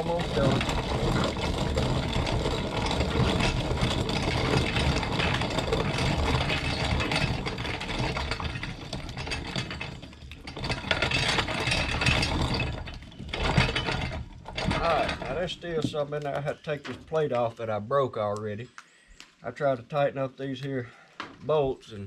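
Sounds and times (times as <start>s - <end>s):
hand-cranked grinder grinding corn: 0.0s - 18.4s.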